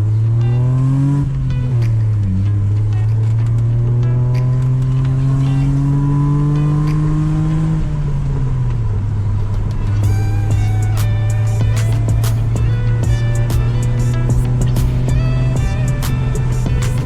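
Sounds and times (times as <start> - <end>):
car engine exhaust note: 0.0 - 17.0.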